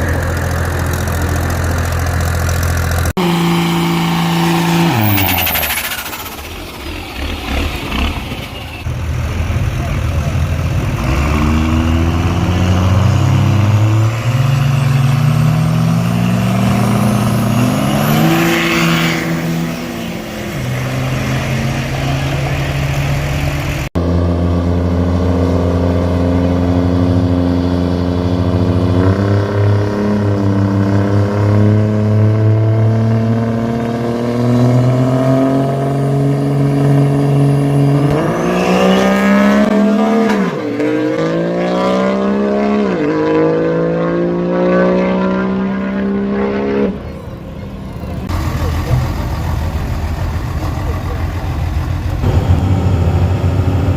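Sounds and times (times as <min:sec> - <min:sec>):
diesel truck engines revving: 0:00.0 - 0:53.9.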